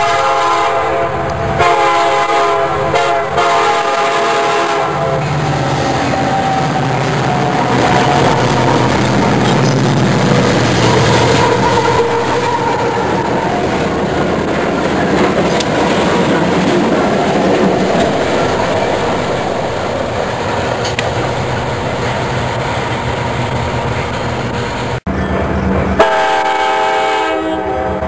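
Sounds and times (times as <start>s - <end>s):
freight locomotive engines rumbling: 0.0s - 28.0s
train wheels on rails: 1.1s - 27.2s.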